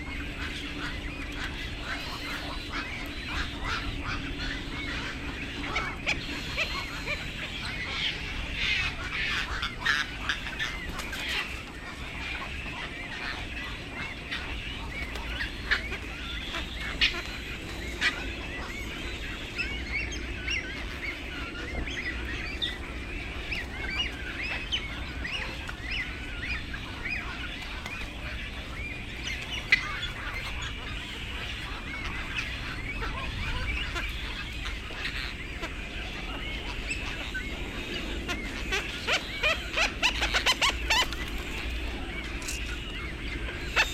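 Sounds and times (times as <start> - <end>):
birds chirping: 0.0 - 43.9
low steady hum: 0.0 - 43.9.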